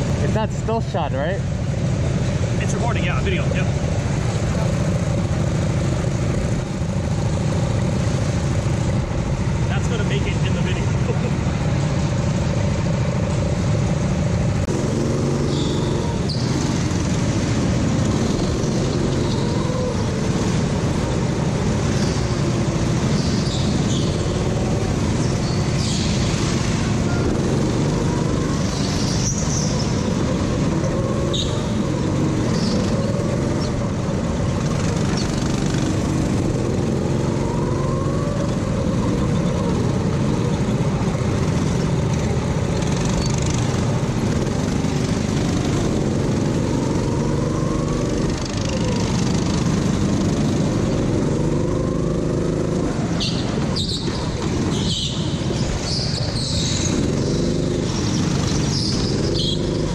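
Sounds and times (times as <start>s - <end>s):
go-kart engines running: 0.0s - 59.9s.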